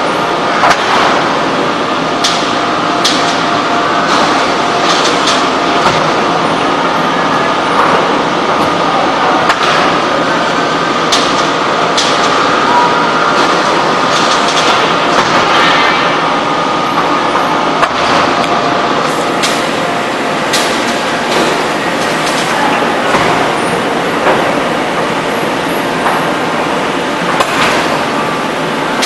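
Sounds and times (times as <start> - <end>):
forging press machine din: 0.2 - 29.0.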